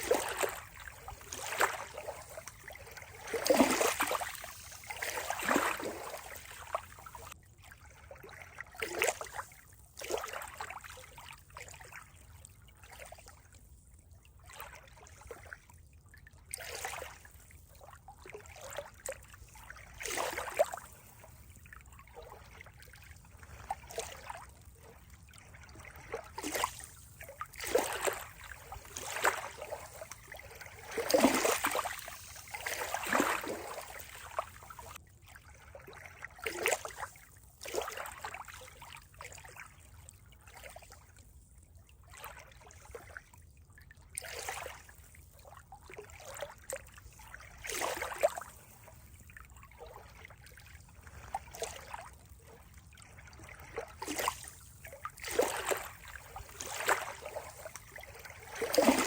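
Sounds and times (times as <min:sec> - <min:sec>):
small water splashes: 0:00.0 - 0:59.0
water trickling and gurgling: 0:00.0 - 0:59.0.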